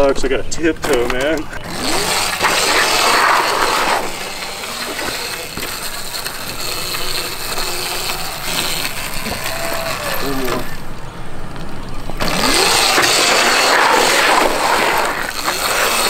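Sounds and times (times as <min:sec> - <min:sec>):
electric dirt bike riding: 0:00.8 - 0:16.0
electric motor whine: 0:01.6 - 0:11.0, 0:12.1 - 0:16.0.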